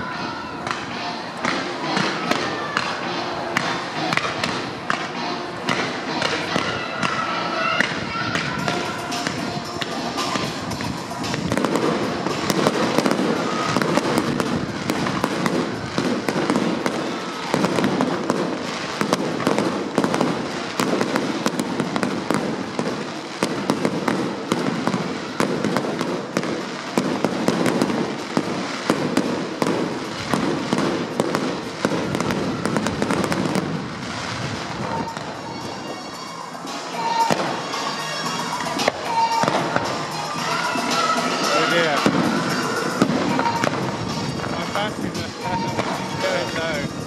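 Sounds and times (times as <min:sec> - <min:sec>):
fireworks bursting: 0:00.4 - 0:47.0.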